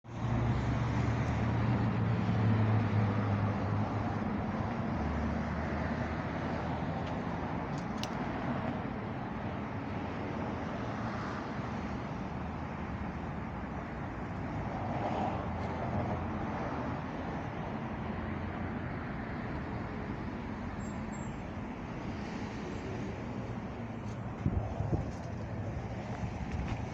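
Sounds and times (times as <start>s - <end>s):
road traffic hum: 0.1s - 26.9s.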